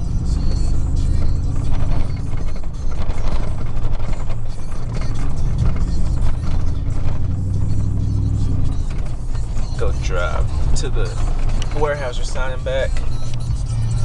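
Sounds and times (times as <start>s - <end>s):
radio music: 0.0s - 14.0s
truck engine and exhaust droning: 0.0s - 14.0s.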